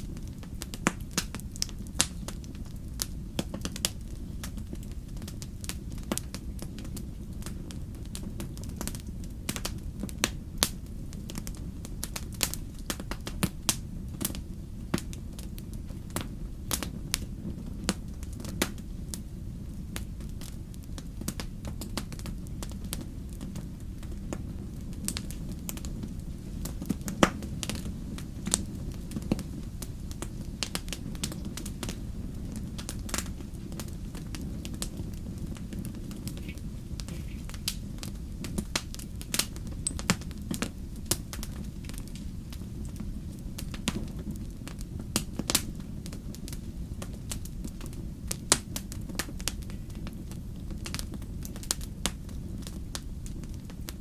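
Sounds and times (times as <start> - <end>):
campfire crackling and popping: 0.0 - 54.0
low rumble of fire: 0.0 - 54.0.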